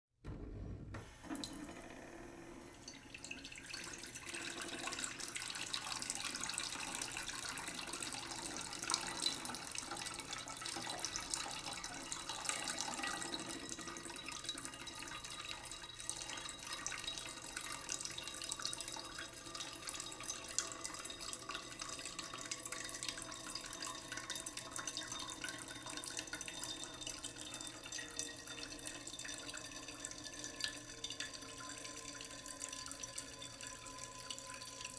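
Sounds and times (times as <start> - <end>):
tap water running into a pot: 0.9 - 34.9.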